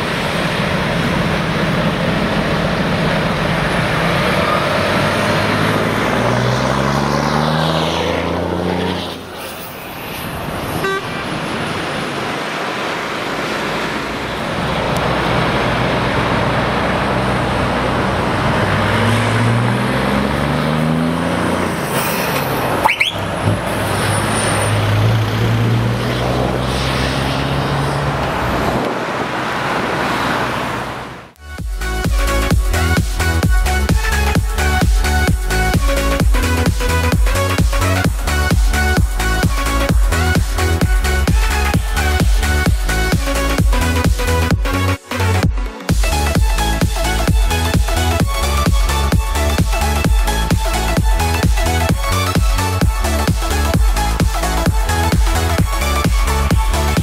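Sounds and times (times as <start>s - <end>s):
road traffic noise: 0.0s - 57.0s
truck diesel engine accelerating: 0.0s - 57.0s.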